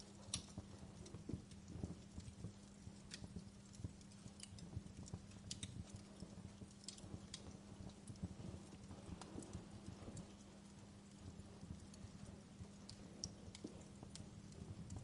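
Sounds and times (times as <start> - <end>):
steady low hum: 0.0 - 15.0
wood fire crackling: 0.0 - 15.0.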